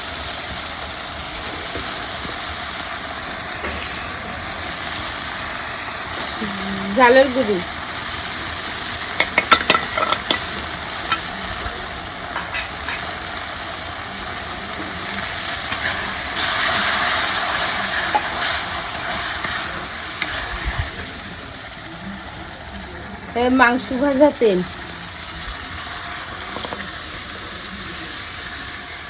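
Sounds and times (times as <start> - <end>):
spices frying in oil: 0.0 - 29.0.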